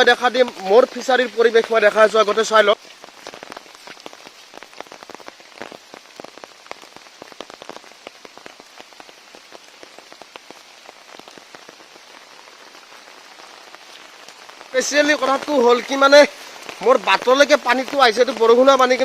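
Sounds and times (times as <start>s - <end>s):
heavy rain hissing: 0.0s - 19.0s
raindrop strikes close by: 0.0s - 19.0s.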